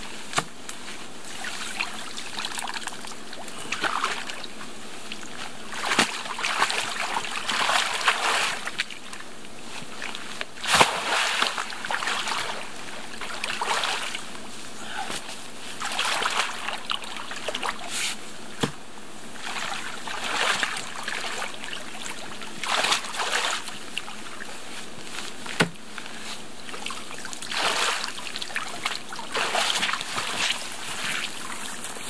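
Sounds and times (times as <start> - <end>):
water splashing and sloshing: 0.3 - 14.7, 15.6 - 32.0.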